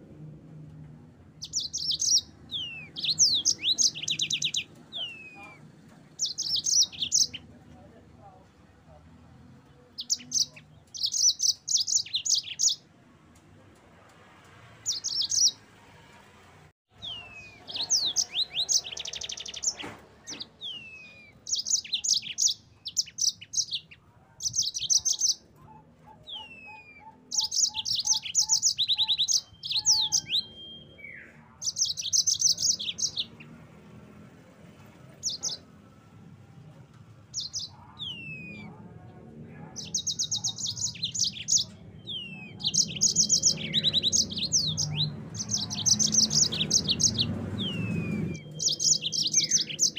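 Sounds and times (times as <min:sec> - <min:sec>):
canary singing: 0:01.2 - 0:07.6, 0:09.4 - 0:12.9, 0:14.8 - 0:15.7, 0:16.9 - 0:49.9.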